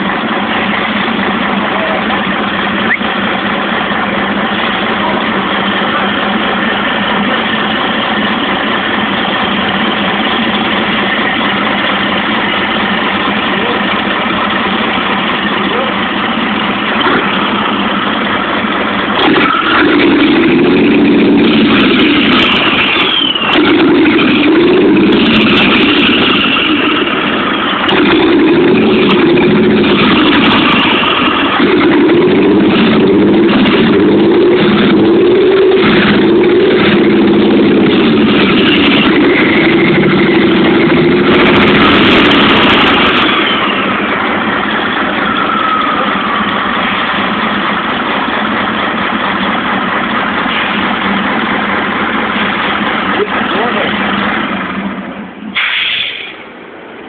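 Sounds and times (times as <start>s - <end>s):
diesel truck engine revving: 0.0s - 57.0s
high engine whine: 0.0s - 57.0s.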